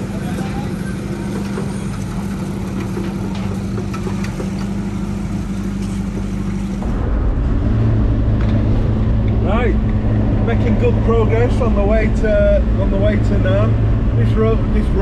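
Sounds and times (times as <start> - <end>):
ferry engine drone: 0.0 - 15.0
pickup truck engine running: 0.0 - 15.0.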